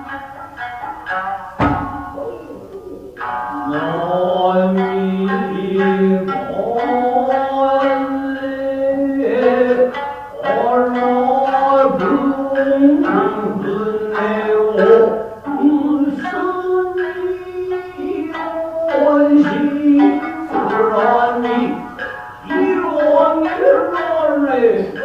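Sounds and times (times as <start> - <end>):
person singing wavering notes: 0.0 - 25.0
plucked strings: 0.0 - 25.0.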